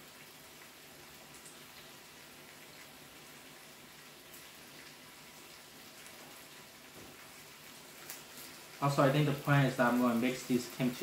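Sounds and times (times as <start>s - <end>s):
food sizzling on a grill: 0.0s - 11.0s.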